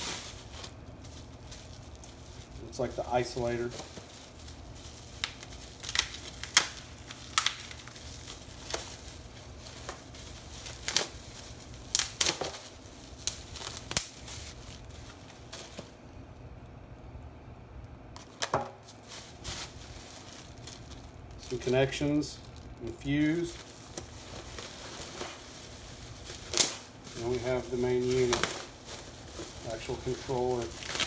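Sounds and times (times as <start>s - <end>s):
plastic packaging crinkling: 0.0s - 16.0s, 18.2s - 31.0s.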